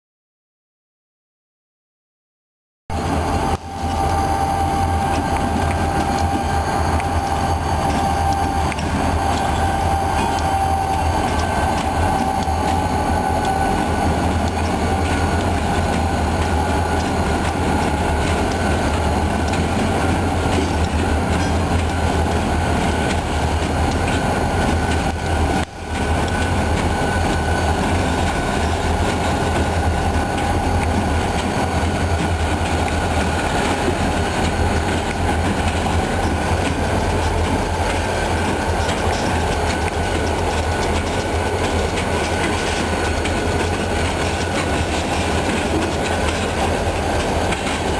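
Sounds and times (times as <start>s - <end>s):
heavy train rumble: 2.9s - 47.9s
train wheels clacking over rail joints: 3.5s - 47.9s.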